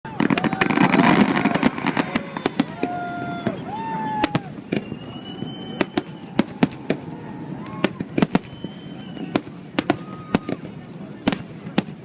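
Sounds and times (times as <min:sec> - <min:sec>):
firework whistles: 0:00.1 - 0:10.7
firework bangs: 0:00.1 - 0:12.0.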